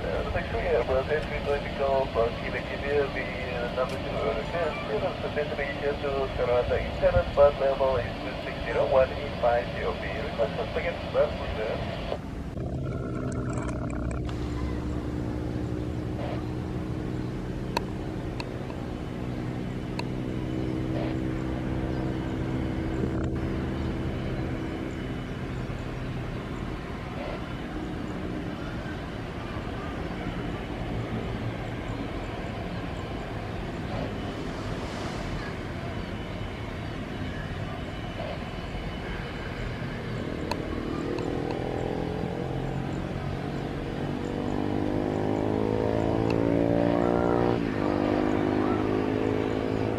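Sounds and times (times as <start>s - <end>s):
engine humming: 0.0s - 49.9s
engine speeding up: 7.6s - 49.9s.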